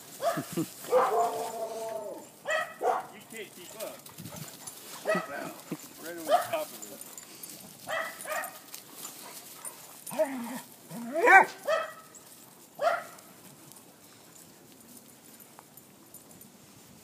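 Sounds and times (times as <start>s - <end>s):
dogs barking and yipping: 0.1s - 14.9s.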